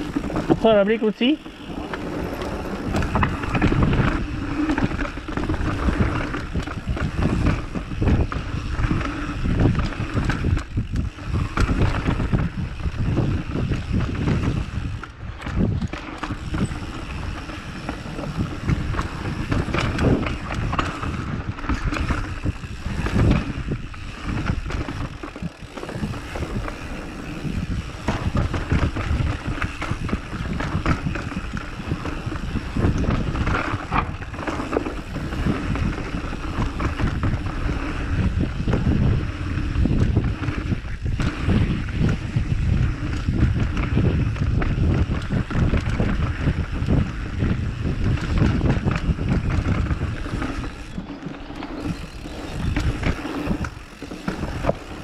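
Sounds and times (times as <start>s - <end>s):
rumbling and rattling of movement: 0.0s - 55.0s
wind buffeting microphone: 0.0s - 55.0s.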